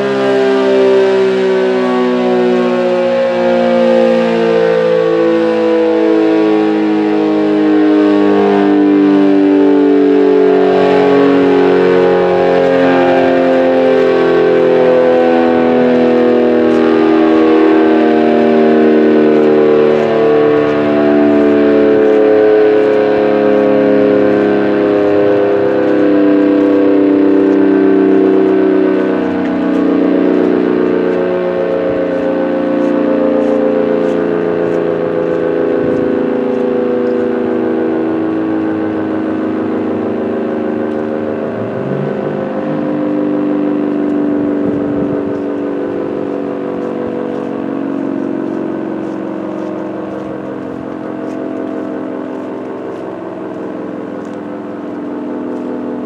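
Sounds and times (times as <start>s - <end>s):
warning siren howling: 0.0s - 56.0s.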